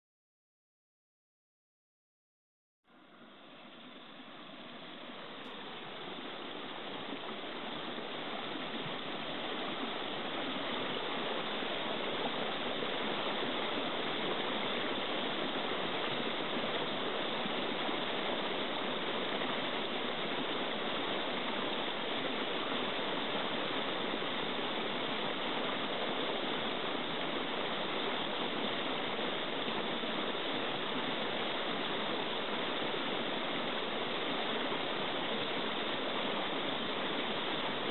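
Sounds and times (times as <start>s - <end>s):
stream flowing: 2.9s - 37.9s.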